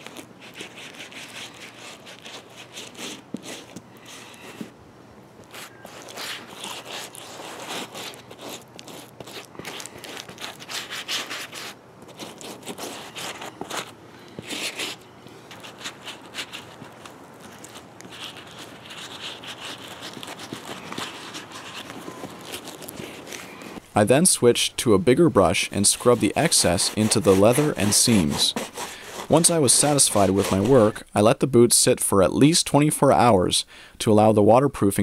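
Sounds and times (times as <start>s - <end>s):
brush scrubbing leather boot: 0.0s - 4.7s, 5.4s - 23.8s, 24.4s - 31.0s.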